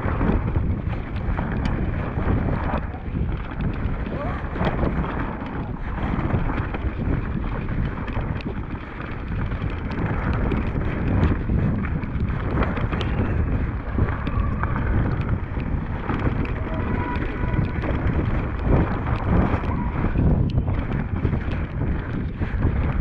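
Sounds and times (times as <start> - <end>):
bike rattling and clicking: 0.0 - 23.0
tyres rolling over loose stones: 0.0 - 23.0
wind buffeting microphone: 0.0 - 23.0.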